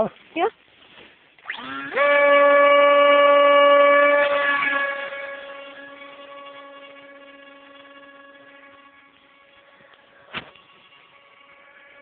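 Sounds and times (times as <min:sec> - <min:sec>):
electric motor and propeller whine: 0:01.3 - 0:12.0.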